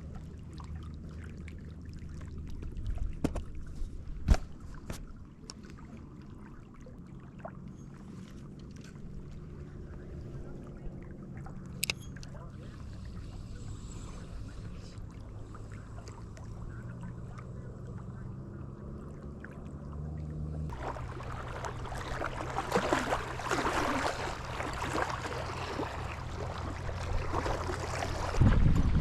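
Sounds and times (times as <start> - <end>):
rushing wind and water: 0.0 - 29.0
small boat motor humming: 0.0 - 29.0.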